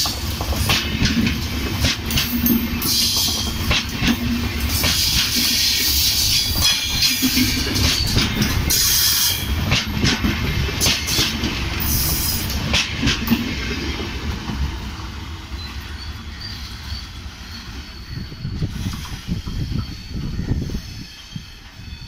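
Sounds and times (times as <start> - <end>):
train wheels clicking and squealing: 0.0 - 22.0
train wheels rumbling on rails: 0.0 - 22.0.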